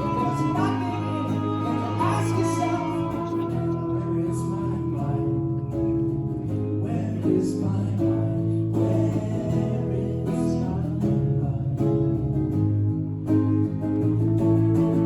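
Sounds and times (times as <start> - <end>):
live band with guitar and bass: 0.0 - 15.0.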